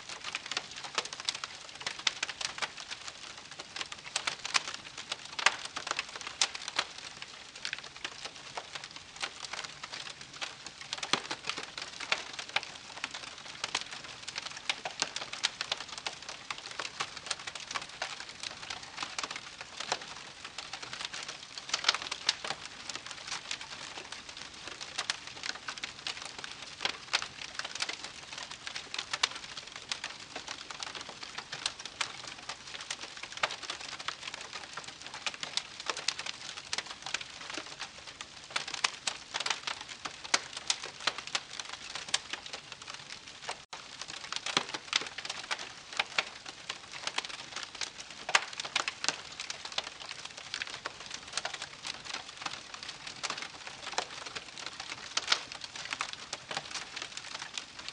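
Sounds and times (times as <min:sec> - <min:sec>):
campfire crackling: 0:00.1 - 0:57.9.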